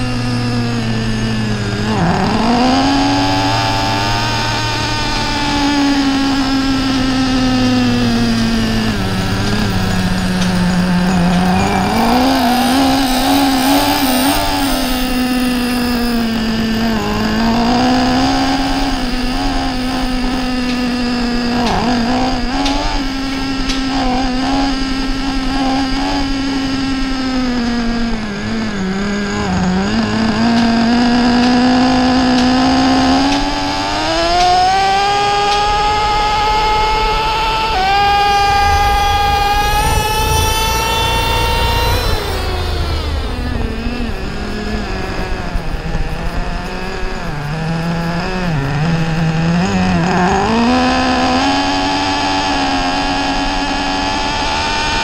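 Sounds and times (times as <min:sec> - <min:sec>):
model truck engine whining: 0:00.0 - 0:55.0.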